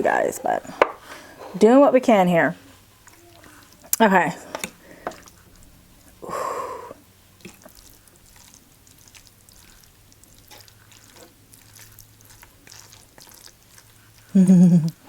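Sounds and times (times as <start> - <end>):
small wet sounds: 2.6 - 15.0.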